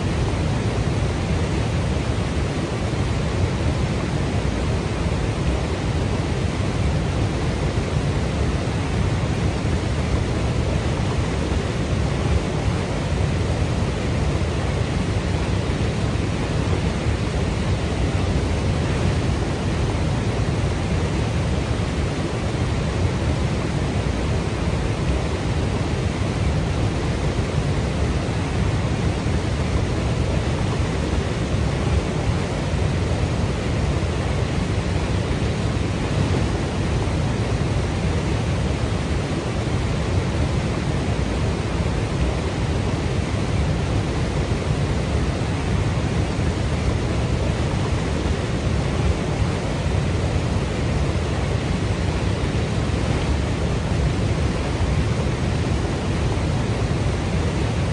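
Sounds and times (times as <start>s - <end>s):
waterfall roaring: 0.0s - 57.9s.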